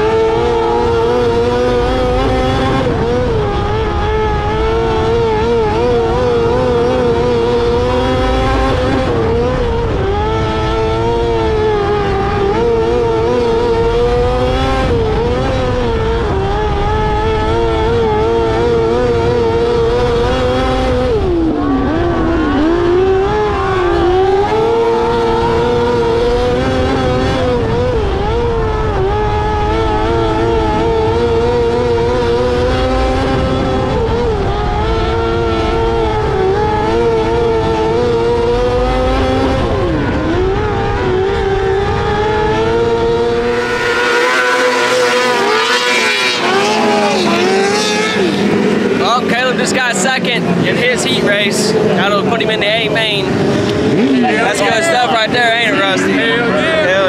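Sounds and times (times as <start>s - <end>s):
racing car engine at high revs: 0.0s - 57.0s.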